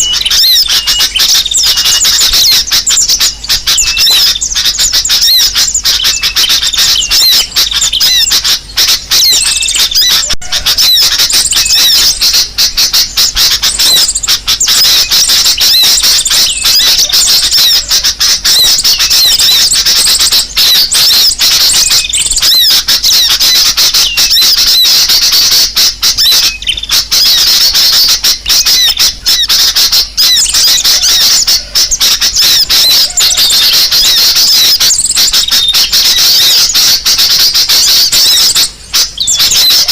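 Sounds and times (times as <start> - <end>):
bulbul calls: 0.0 - 39.9
sunbird chirping: 0.0 - 39.9.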